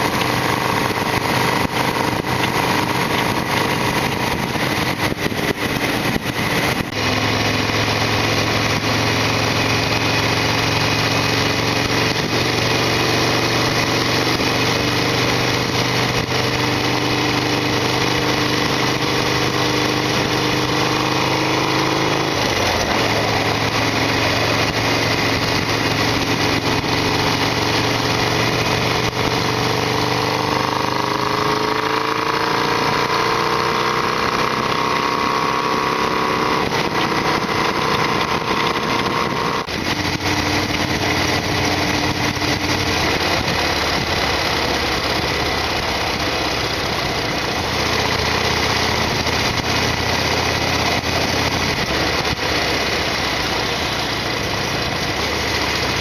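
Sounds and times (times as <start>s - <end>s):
motorcycle engine running: 0.0s - 56.0s
steady rush of noise: 0.0s - 56.0s.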